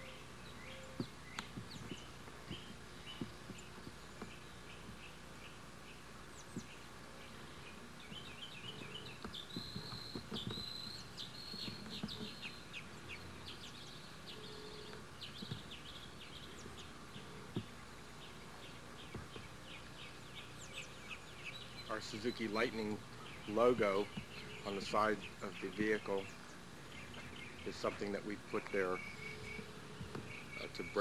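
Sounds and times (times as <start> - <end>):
small birds chirping: 0.0 - 31.0
steady hiss: 0.0 - 31.0.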